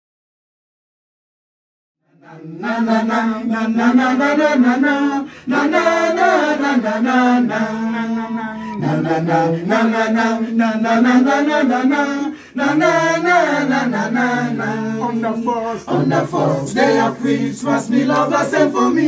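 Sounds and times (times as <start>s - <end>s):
group of voices chanting: 2.1s - 19.0s.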